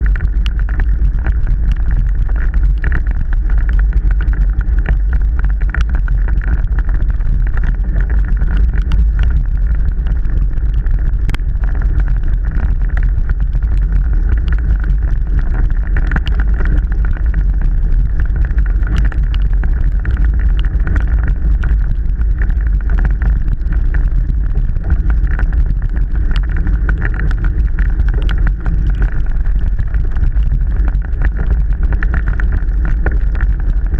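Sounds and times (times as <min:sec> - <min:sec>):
wind rumble on microphone: 0:00.0 - 0:33.9.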